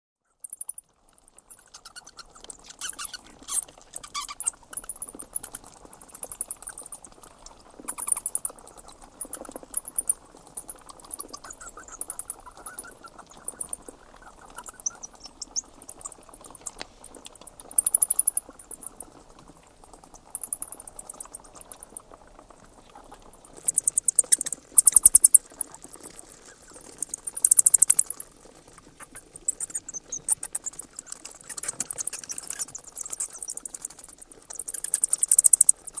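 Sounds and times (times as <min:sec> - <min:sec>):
faint background hiss: 0:00.3 - 0:36.0
bats squeaking: 0:00.4 - 0:36.0.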